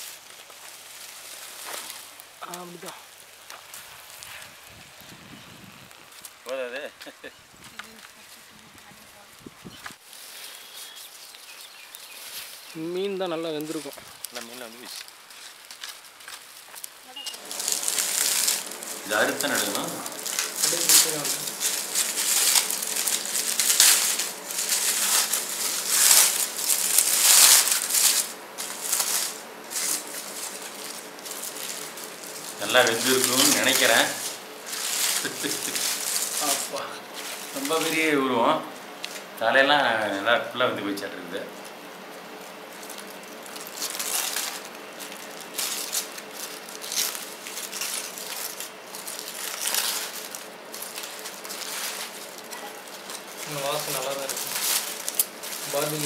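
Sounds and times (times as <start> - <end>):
aluminium foil crinkling: 0.0 - 40.3, 41.0 - 56.0.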